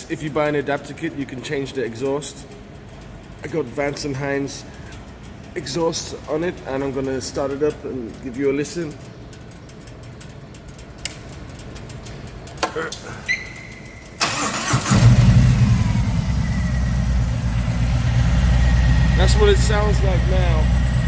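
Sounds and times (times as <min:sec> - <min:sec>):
motorcycle engine starting and idling: 0:00.4 - 0:21.0.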